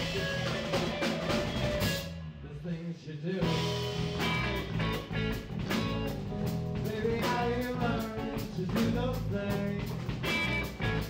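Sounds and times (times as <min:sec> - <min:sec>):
drum kit keeping a steady beat: 0:00.0 - 0:02.2, 0:03.4 - 0:11.0
electric guitars: 0:00.0 - 0:02.3, 0:03.4 - 0:11.0.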